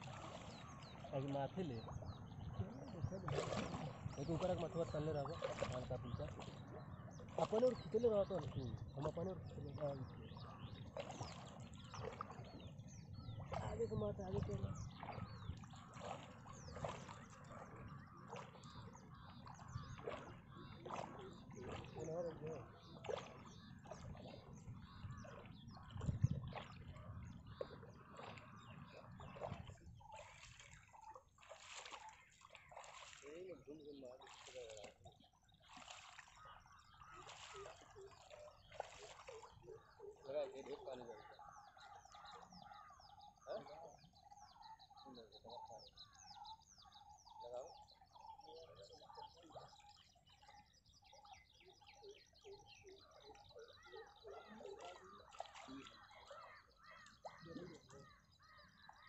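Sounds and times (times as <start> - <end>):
water sloshing while wading: 0.0 - 59.0
birds chirping and whistling: 1.8 - 33.3, 41.2 - 59.0.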